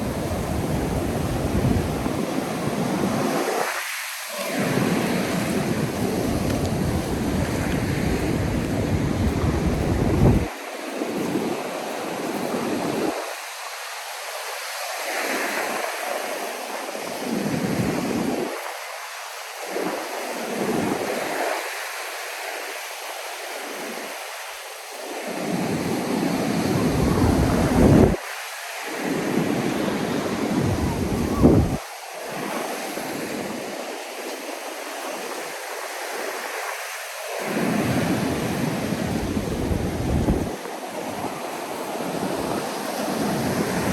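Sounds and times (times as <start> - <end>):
wind gusts on microphone: 0.0 - 24.2, 24.9 - 43.9
ocean surf on sandy beach: 0.0 - 43.9.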